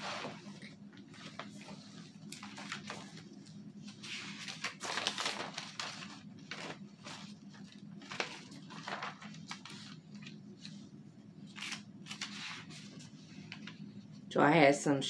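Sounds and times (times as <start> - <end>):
notebook pages rustling: 0.0 - 14.1.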